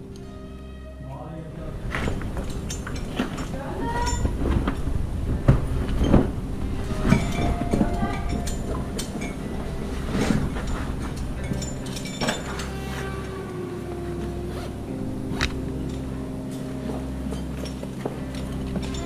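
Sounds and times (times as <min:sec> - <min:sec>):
metal carabiners clinking: 0:01.8 - 0:05.0, 0:05.7 - 0:19.0
handling rustle: 0:01.8 - 0:19.0.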